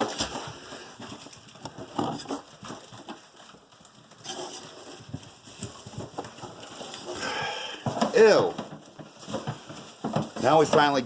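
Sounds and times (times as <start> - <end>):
nest debris rustling and scraping: 0.0 - 11.0.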